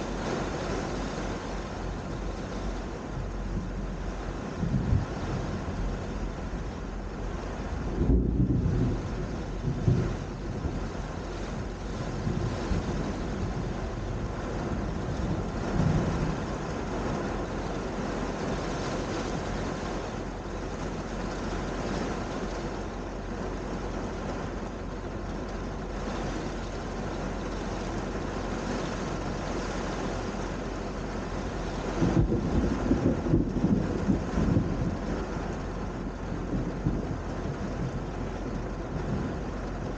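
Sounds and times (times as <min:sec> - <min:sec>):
low rumble of thunder: 0:00.0 - 0:23.9, 0:24.9 - 0:39.9
heavy rain falling: 0:00.0 - 0:39.9.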